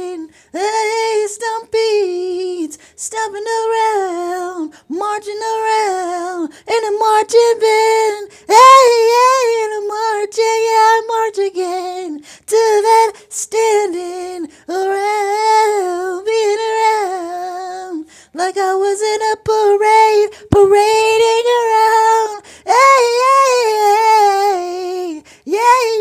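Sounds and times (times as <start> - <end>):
high voice singing wordlessly: 0.0 - 26.0.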